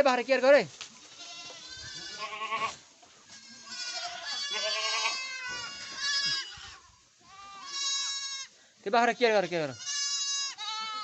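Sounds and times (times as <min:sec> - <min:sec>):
goats bleating: 0:01.0 - 0:11.0.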